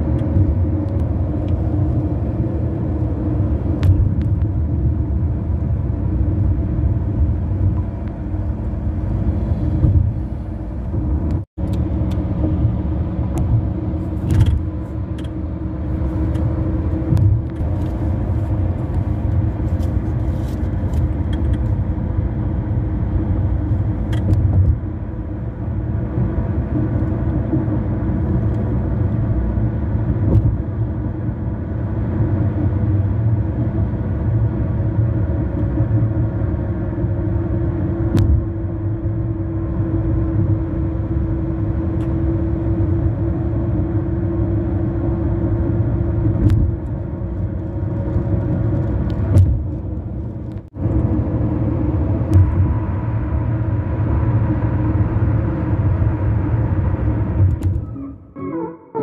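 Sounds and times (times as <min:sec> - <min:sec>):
car tyres road rumble: 0:00.0 - 0:59.0.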